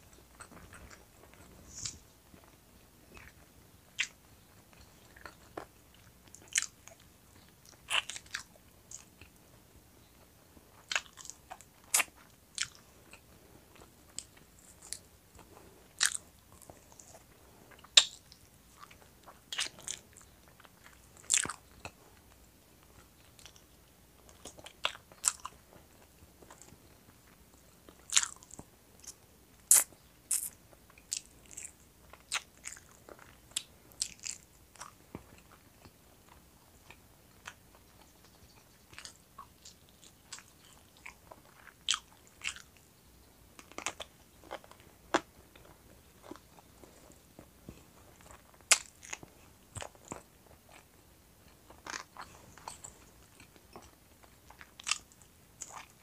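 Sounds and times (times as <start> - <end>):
chewing chicken wings: 0.0 - 42.9, 43.6 - 56.0.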